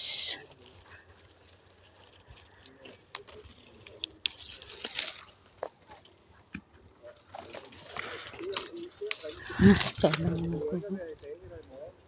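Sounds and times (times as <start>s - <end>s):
leaves and twigs rustling: 0.0s - 12.0s
twigs snapping and clicking: 0.4s - 10.7s.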